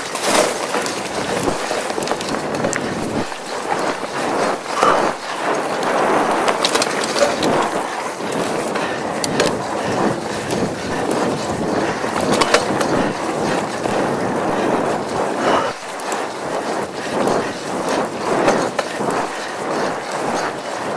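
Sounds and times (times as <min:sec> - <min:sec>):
bike rattling over bumps: 0:00.0 - 0:20.9
bike tyres rolling on dirt: 0:00.0 - 0:20.9.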